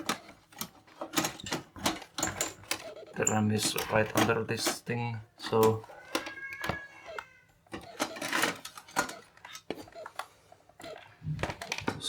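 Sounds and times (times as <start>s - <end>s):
computer parts clicking and knocking: 0.0s - 12.0s.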